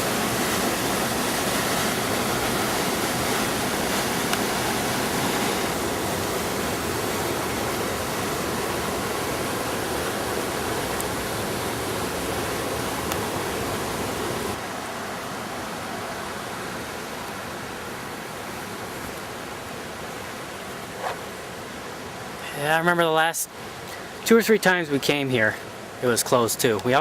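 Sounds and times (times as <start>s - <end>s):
fast-flowing water rushing: 0.0s - 27.0s.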